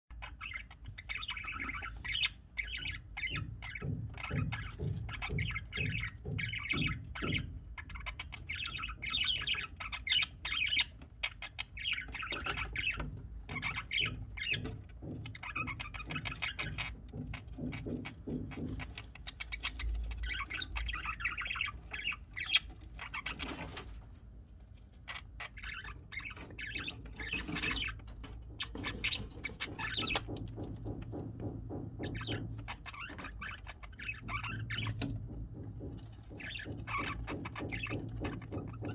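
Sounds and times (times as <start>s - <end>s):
budgerigar chicks chirping: 0.1s - 38.9s
scratching and tapping in bedding: 0.2s - 38.9s.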